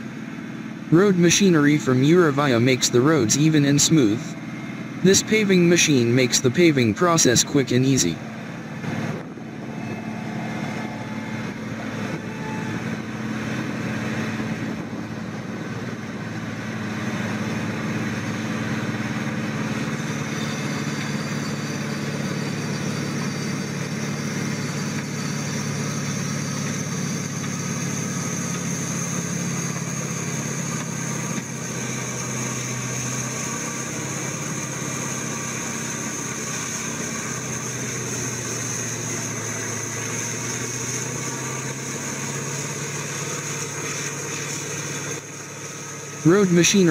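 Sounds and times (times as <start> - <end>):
diesel engine running under load: 0.0 - 46.9
steady high whine: 0.0 - 46.9.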